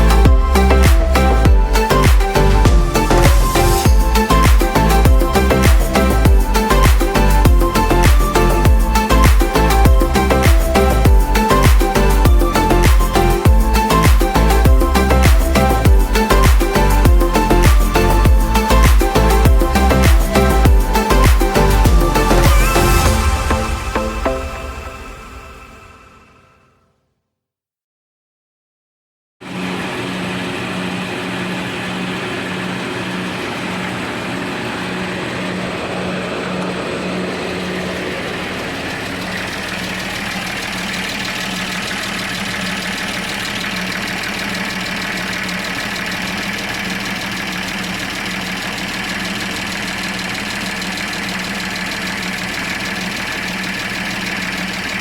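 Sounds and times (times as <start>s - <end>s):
diesel engine idling: 0.0s - 25.9s, 29.5s - 55.0s.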